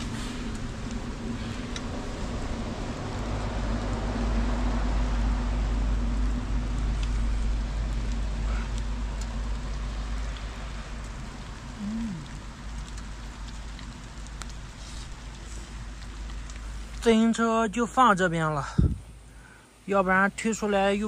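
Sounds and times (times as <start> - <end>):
low rumble: 0.0 - 17.1, 18.5 - 19.5
low hum: 0.0 - 19.7
steady rain falling: 0.0 - 21.0.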